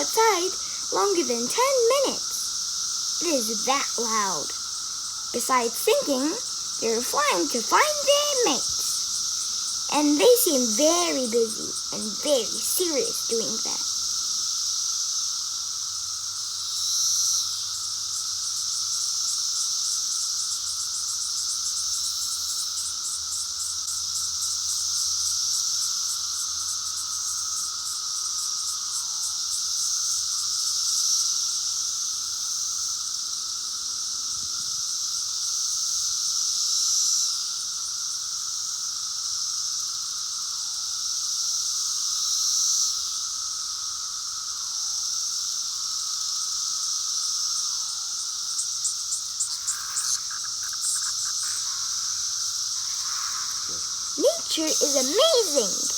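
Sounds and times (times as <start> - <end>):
cicadas buzzing: 0.0 - 55.9.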